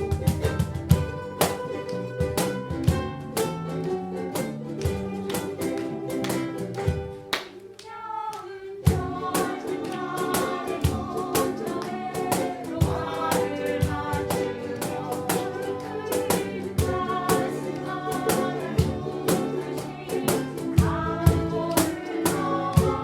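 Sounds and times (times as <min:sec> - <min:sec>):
ukulele ensemble music: 0:00.0 - 0:23.0.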